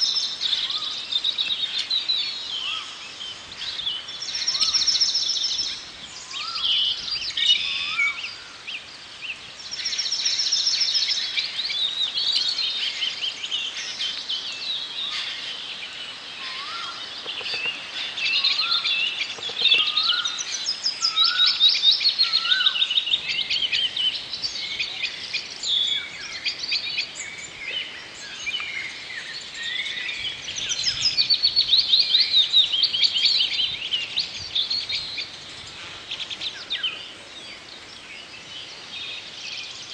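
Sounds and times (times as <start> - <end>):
birds trilling and chirping: 0.0 - 39.9.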